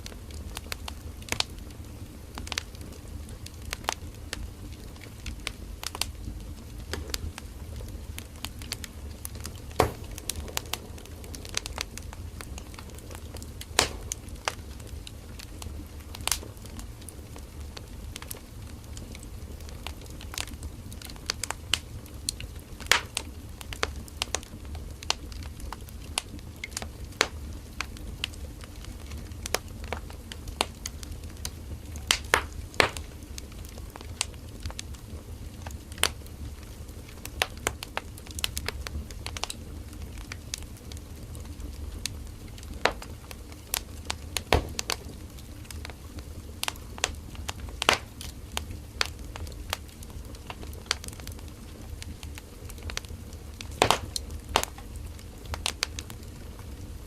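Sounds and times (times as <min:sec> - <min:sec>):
campfire flames rumbling: 0:00.0 - 0:57.0
wood crackling and popping: 0:00.0 - 0:57.0.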